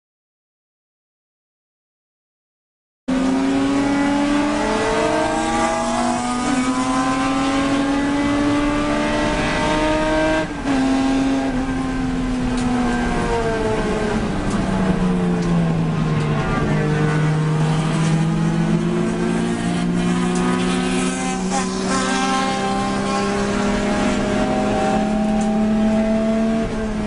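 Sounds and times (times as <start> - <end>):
race car engine at high revs: 3.1 - 27.0.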